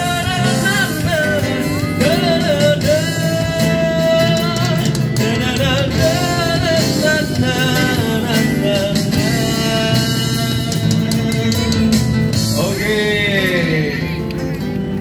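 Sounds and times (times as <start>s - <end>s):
man singing into a microphone: 0.0s - 14.3s
acoustic guitar: 0.0s - 15.0s
electric bass: 0.0s - 15.0s
keyboard: 0.0s - 15.0s.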